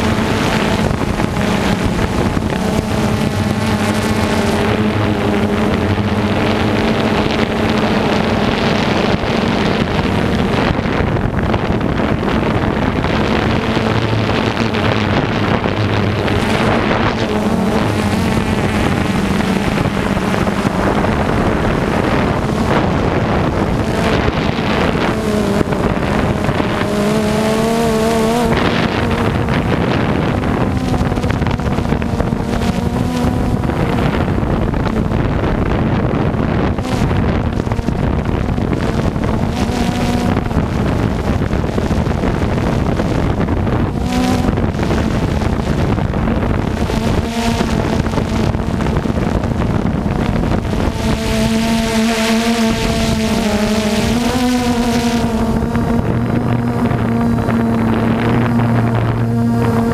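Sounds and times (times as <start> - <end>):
heavy machinery engine at high revs: 0.0 - 59.9
wind buffeting microphone: 0.0 - 59.9.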